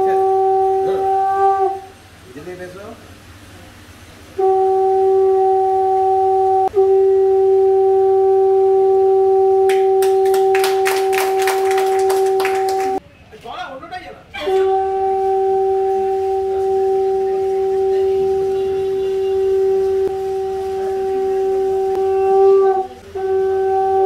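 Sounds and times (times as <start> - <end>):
conch shell blasts: 0.0 - 2.1, 4.4 - 13.0, 14.4 - 24.0.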